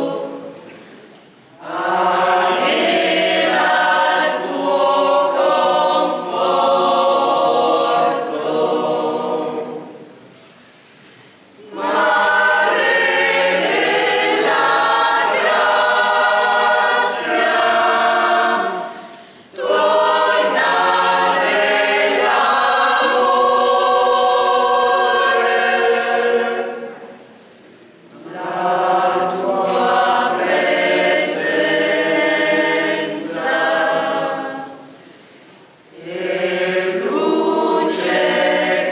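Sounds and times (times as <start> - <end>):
mixed choir singing a cappella: 0.0 - 10.3, 11.6 - 27.5, 28.1 - 38.9.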